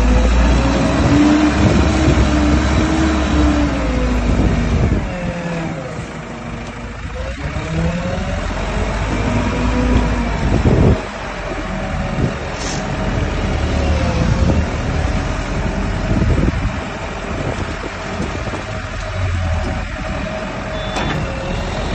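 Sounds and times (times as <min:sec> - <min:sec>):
diesel engine running under load: 0:00.0 - 0:21.9.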